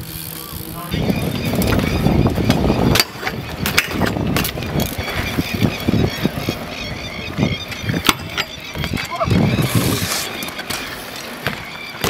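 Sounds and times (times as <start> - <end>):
bike clicks and knocks: 0.0 - 12.0
bike tyre rumble on concrete: 0.0 - 12.0.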